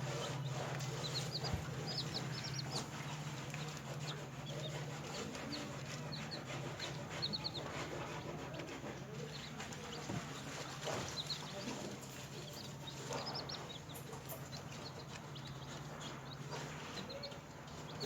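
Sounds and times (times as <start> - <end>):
chicks peeping: 0.0 - 18.0
steady low hum: 0.0 - 18.0.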